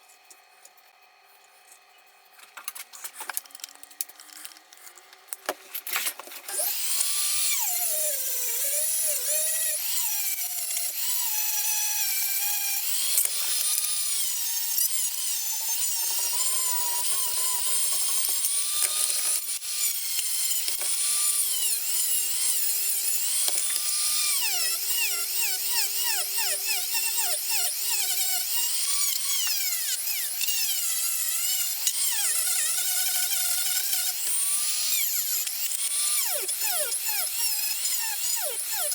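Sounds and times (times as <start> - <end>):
power tool grinding: 2.3 - 38.9.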